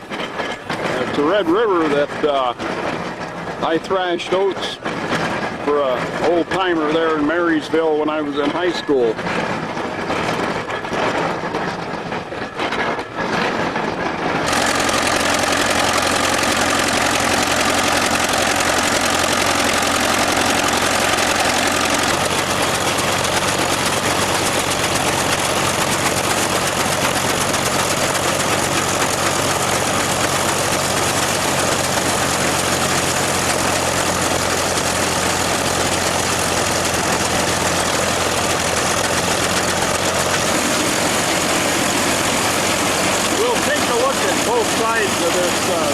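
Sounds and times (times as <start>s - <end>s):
threshing machine whirring and rattling: 0.0s - 45.9s.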